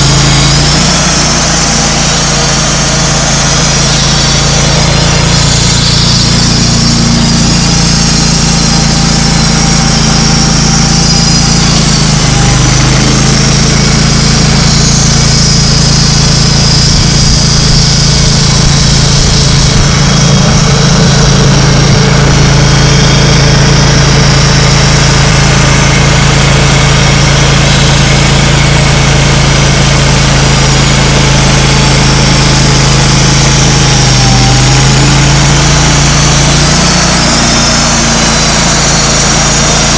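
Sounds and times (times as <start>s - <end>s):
sawmill engine droning: 0.0s - 39.9s.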